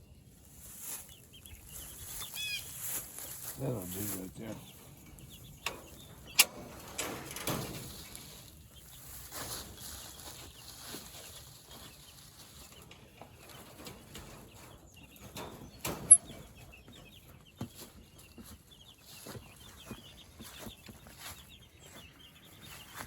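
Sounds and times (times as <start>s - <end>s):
chickens peeping and clucking: 0.0s - 23.0s.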